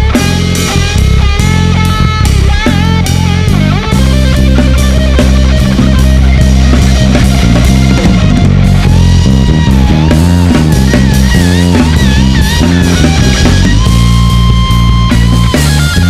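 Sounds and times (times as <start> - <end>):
drum kit: 0.0 - 16.0
electric bass line: 0.0 - 16.0
electric guitar lead with vibrato: 0.0 - 16.0.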